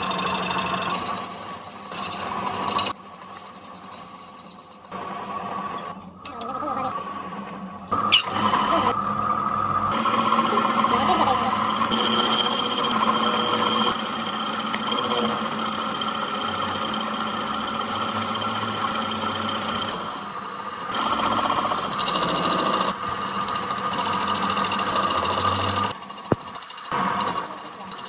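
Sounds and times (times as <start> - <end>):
workshop machine humming: 0.0 - 3.0, 4.9 - 27.9.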